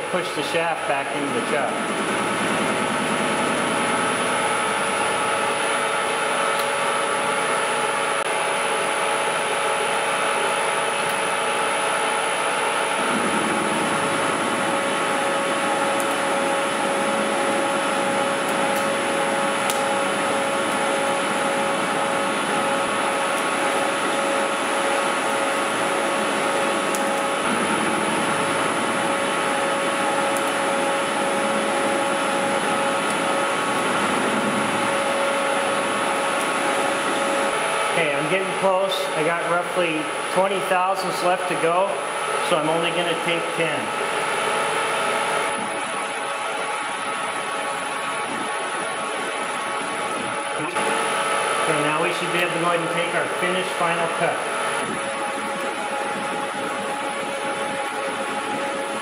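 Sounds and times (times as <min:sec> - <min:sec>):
metal lathe whine: 0:00.0 - 0:59.0.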